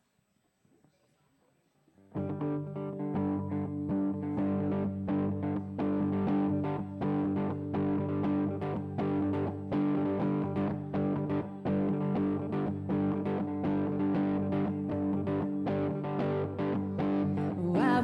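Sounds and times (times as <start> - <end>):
guitar picking: 2.1 - 18.0.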